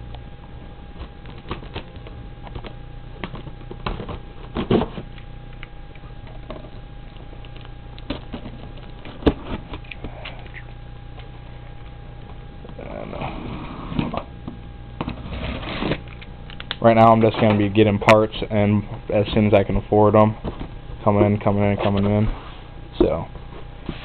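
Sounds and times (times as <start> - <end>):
faint hum: 0.0 - 24.0.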